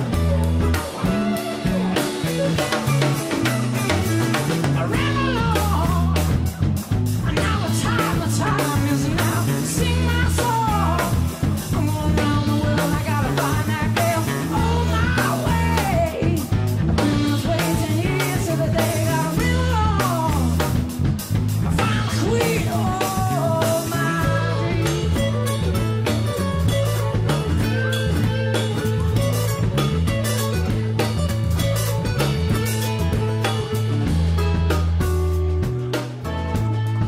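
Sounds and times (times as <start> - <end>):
rock music with singing: 0.0 - 37.0.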